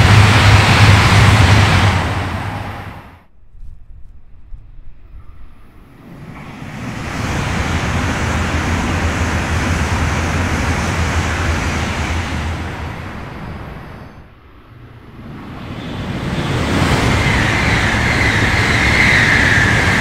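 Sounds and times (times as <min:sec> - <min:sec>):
high-speed train passing: 0:00.0 - 0:03.3, 0:04.0 - 0:20.0.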